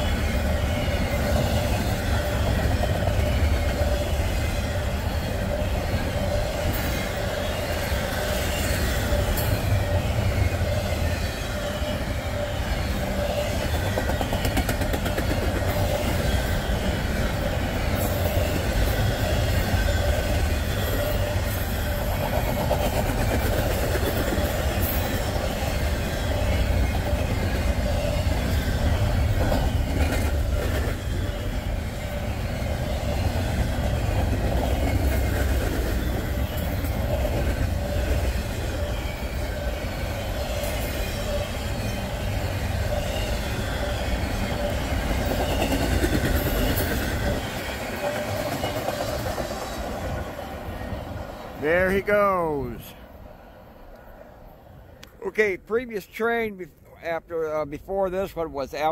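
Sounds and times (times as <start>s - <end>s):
wheels clacking on rail joints: 0.0s - 50.7s
freight train rumbling past: 0.0s - 58.9s.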